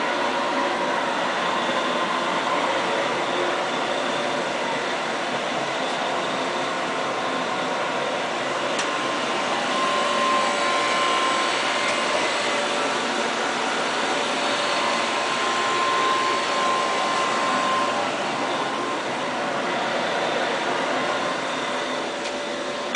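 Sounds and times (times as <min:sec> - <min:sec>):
faint high whine: 0:00.0 - 0:22.9
machinery running: 0:00.0 - 0:22.9.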